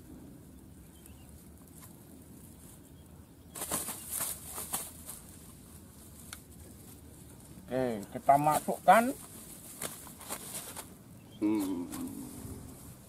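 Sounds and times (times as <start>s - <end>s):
dry grass and net rustling: 0.4s - 13.0s.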